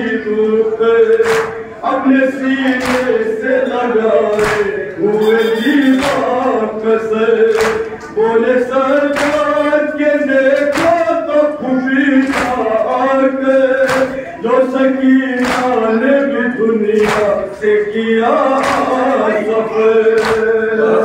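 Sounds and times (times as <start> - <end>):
men singing in chorus: 0.0 - 21.0
rhythmic chest-beating slaps: 0.0 - 21.0.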